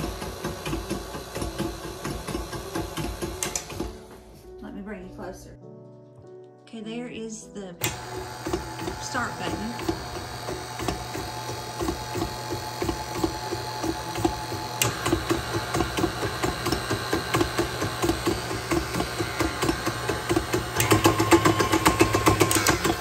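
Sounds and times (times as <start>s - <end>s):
stand mixer whirring: 0.0s - 4.0s, 7.8s - 23.0s.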